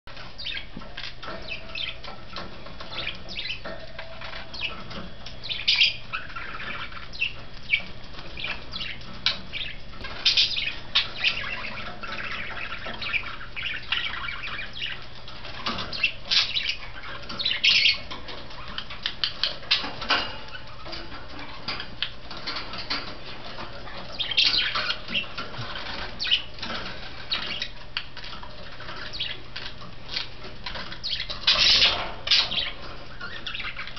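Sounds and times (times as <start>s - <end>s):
beaks and feet tapping cage: 0.1s - 33.9s
budgerigars chirping: 0.1s - 33.9s.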